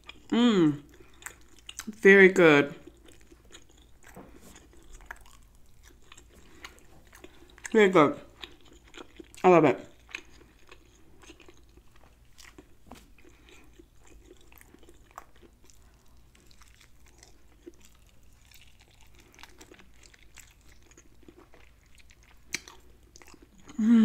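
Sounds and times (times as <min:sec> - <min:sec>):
person chewing meat: 0:00.0 - 0:01.9, 0:02.8 - 0:23.8.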